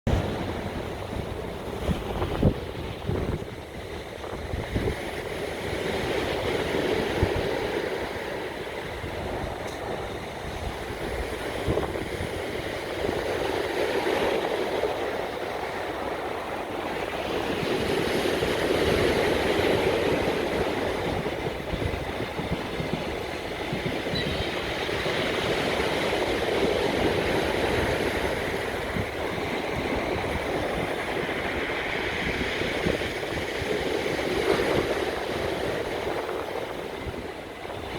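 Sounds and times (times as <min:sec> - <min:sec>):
wind buffeting microphone: 0:00.1 - 0:37.9.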